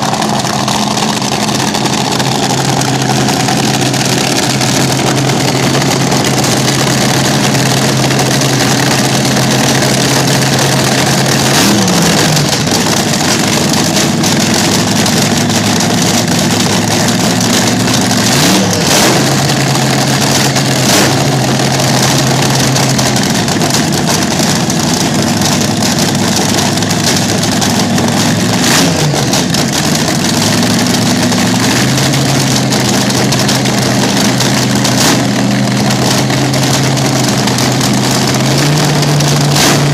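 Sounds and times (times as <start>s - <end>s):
dragster engine idling and revving: 0.0s - 39.9s.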